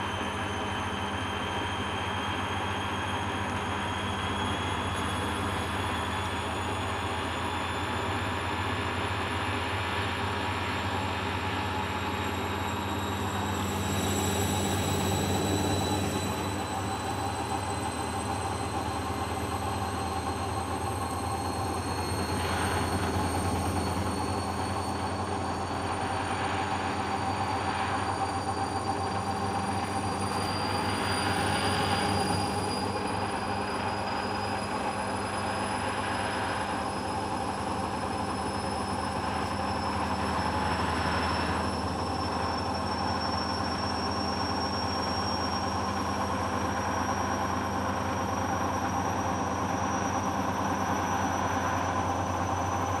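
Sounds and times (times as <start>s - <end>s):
high whine rising in pitch: 0.0s - 53.0s.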